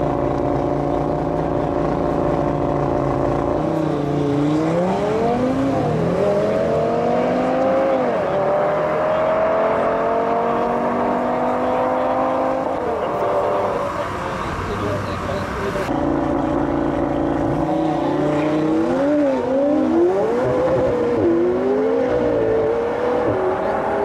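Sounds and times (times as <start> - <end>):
car engine revving and accelerating: 0.0 - 24.0.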